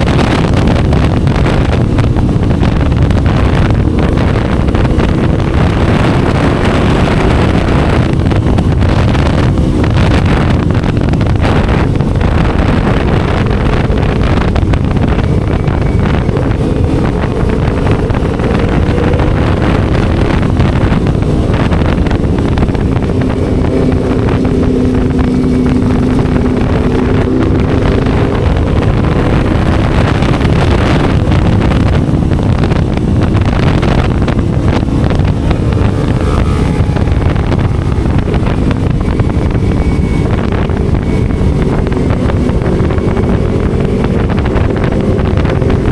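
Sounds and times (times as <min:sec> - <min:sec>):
motorcycle engine cruising: 0:00.0 - 0:45.9
wind buffeting microphone: 0:00.0 - 0:45.9.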